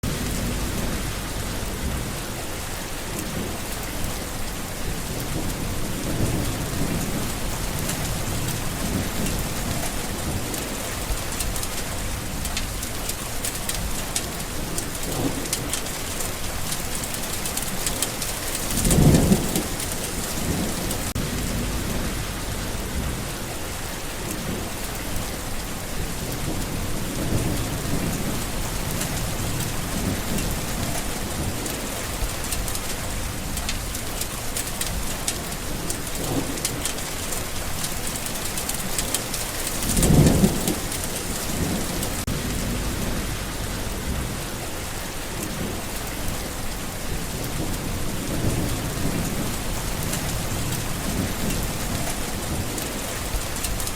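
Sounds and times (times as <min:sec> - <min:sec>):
rain pattering: 0:00.0 - 0:53.9
thunder rumbling: 0:00.0 - 0:53.9.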